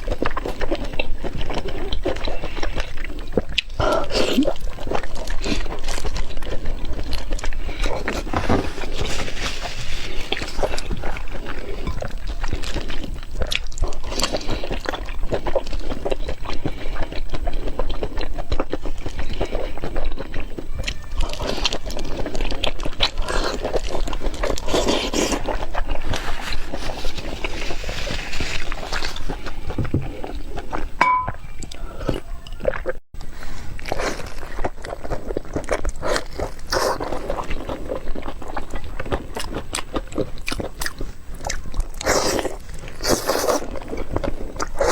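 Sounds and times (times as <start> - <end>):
wet crunchy chewing: 0.0 - 44.9.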